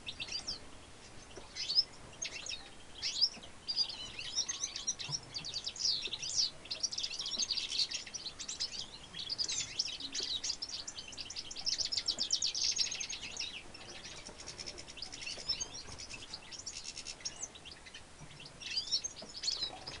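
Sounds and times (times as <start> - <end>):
finch singing high trills: 0.0 - 20.0.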